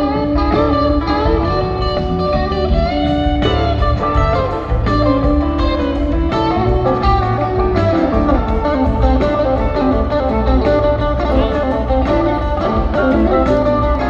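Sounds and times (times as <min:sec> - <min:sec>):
electric guitar lines: 0:00.0 - 0:14.0
live rock band playing: 0:00.0 - 0:14.0.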